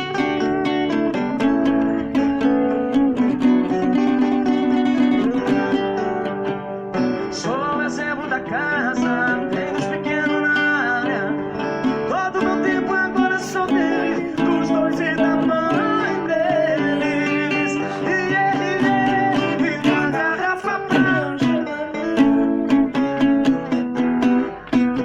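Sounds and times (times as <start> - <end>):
acoustic guitar strummed and picked: 0.0 - 25.0
person singing: 0.0 - 25.0.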